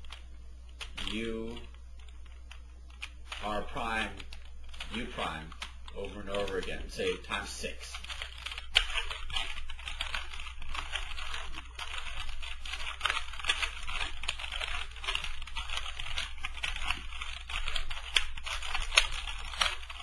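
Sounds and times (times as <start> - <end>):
puzzle cube plastic clicking: 0.0 - 20.0.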